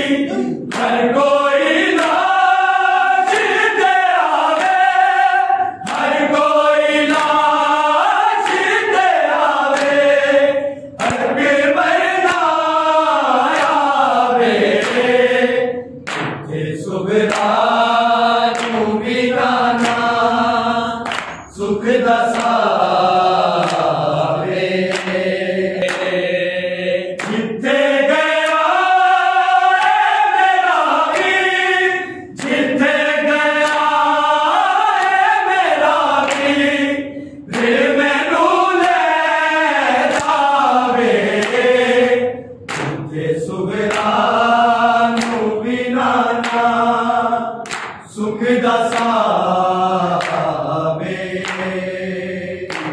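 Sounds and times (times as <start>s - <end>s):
men singing in unison: 0.0s - 52.9s.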